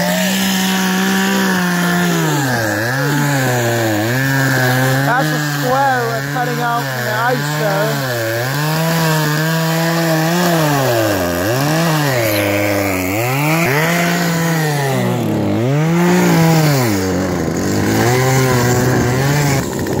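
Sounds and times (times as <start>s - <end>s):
chainsaw cutting ice: 0.0s - 20.0s.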